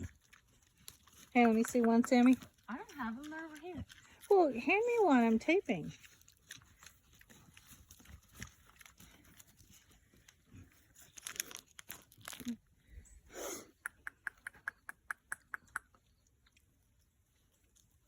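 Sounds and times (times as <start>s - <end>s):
pigs smacking mouths: 0.0s - 12.6s, 13.7s - 16.6s
pigs crunching food: 0.0s - 18.0s.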